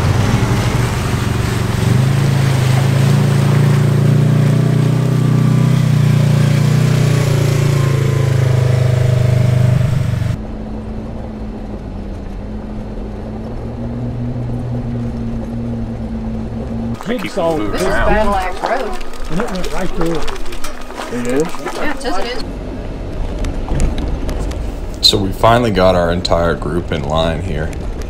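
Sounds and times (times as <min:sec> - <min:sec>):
off-road vehicle engine drone: 0:00.0 - 0:28.0.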